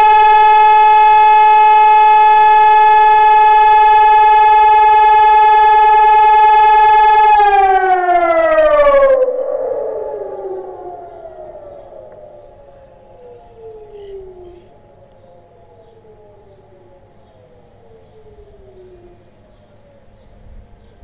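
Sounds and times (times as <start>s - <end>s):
electronic siren tone: 0.0s - 20.8s
distant falling siren tones: 0.0s - 21.0s.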